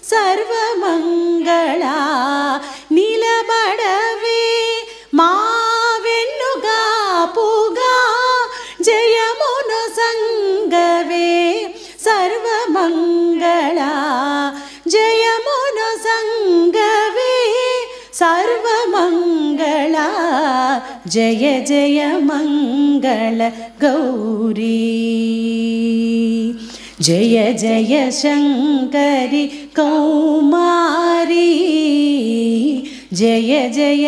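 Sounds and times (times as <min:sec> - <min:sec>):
women singing devotional song: 0:00.0 - 0:34.0.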